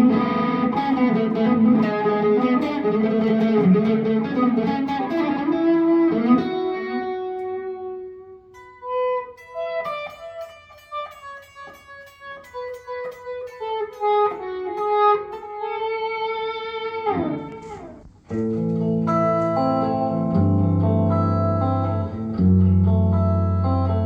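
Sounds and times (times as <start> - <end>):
plucked electric guitar: 0.0 - 24.0.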